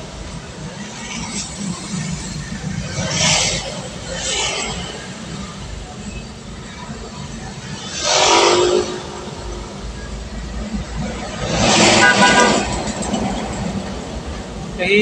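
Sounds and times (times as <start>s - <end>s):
low road drone: 0.0s - 15.0s
vehicles rushing past: 0.0s - 15.0s.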